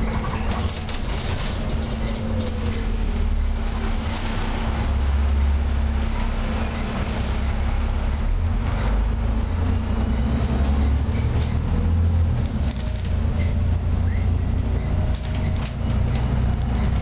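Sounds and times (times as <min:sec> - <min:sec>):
bus diesel engine drone: 0:00.0 - 0:17.0
road and body noise: 0:00.0 - 0:17.0.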